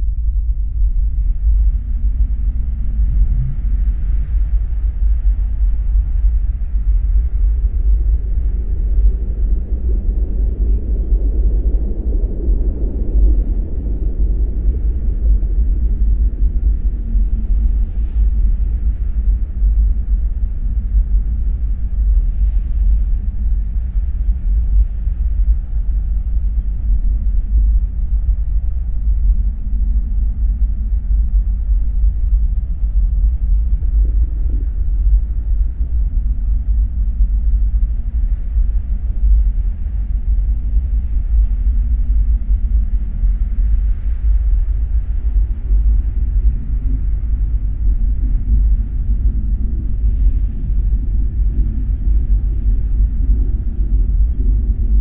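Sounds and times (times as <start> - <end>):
deep rumble: 0.0 - 55.0.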